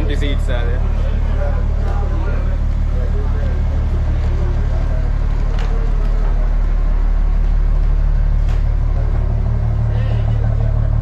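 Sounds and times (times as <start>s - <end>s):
ferry engine drone: 0.0s - 11.0s.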